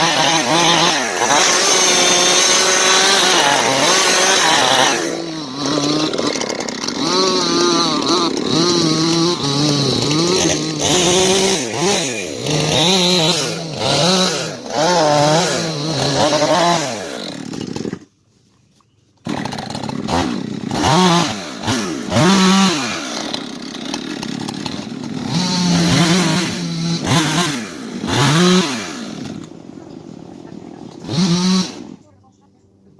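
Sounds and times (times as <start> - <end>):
chainsaw cutting wood: 0.0 - 18.2, 19.2 - 32.1.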